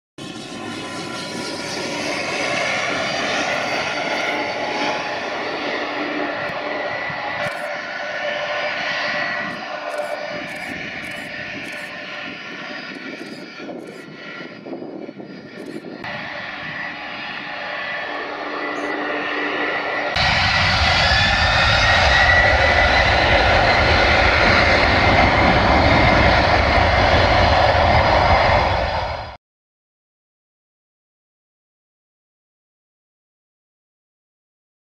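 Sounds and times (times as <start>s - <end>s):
jet engines running with high whine: 0.2s - 29.4s.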